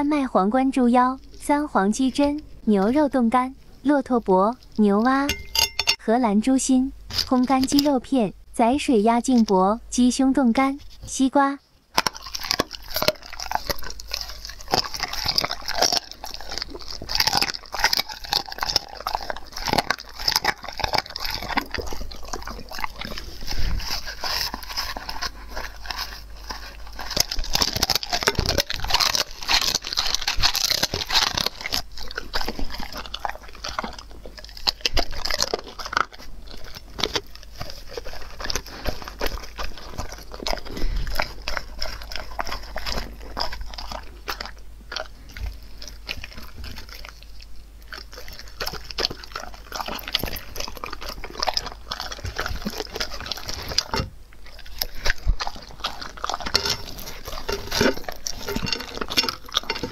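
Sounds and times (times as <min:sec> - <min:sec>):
dog chewing and crunching food: 0:00.0 - 0:59.9.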